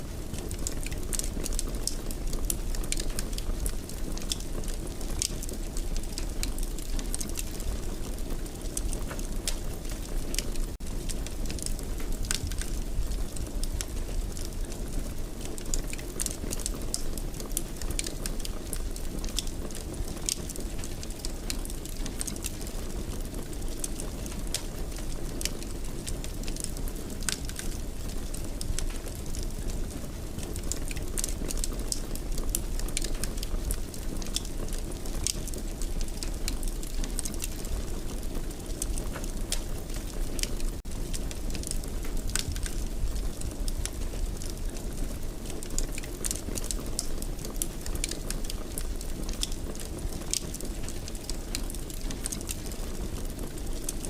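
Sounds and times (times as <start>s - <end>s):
fire crackling: 0.0s - 54.0s
fire rumbling: 0.0s - 54.0s.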